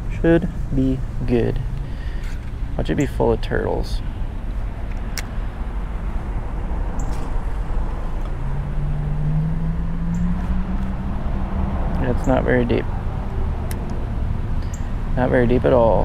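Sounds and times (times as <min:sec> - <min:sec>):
passing vehicle engine hum: 0:00.0 - 0:16.0
road traffic rumble: 0:00.0 - 0:16.0.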